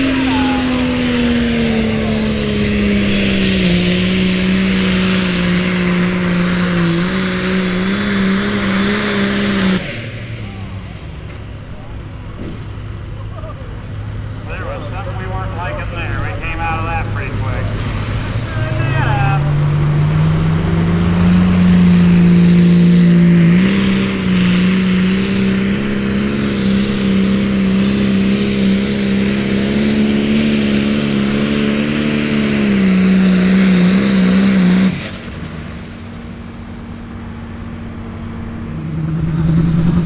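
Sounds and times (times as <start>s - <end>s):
tractor diesel engine at full throttle: 0.0s - 40.0s.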